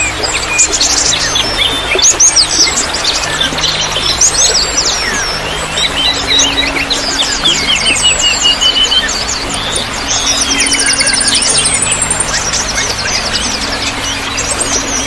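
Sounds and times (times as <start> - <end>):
running water trickling: 0.0 - 15.0
songbirds chirping: 0.0 - 15.0.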